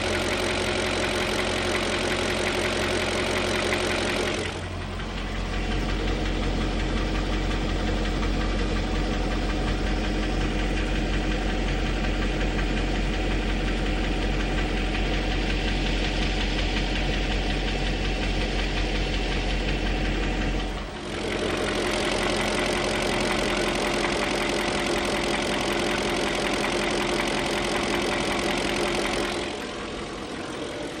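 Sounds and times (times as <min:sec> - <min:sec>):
car engine idling with knock: 0:00.0 - 0:30.4.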